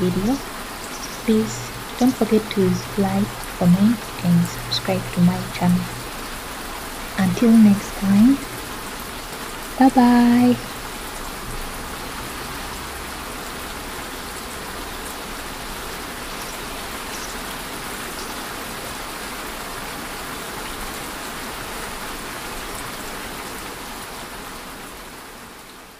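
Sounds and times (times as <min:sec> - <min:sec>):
steady rain: 0:00.0 - 0:25.9.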